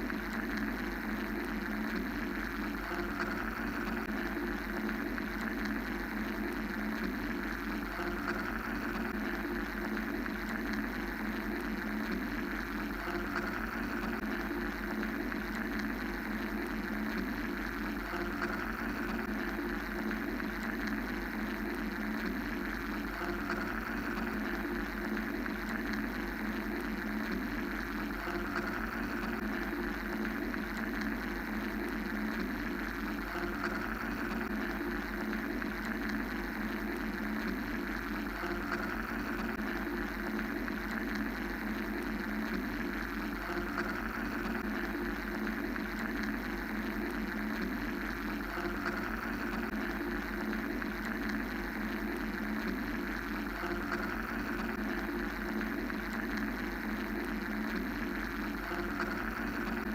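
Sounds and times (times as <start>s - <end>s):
low mechanical hum: 0.0s - 59.9s
white noise hiss: 0.0s - 59.9s.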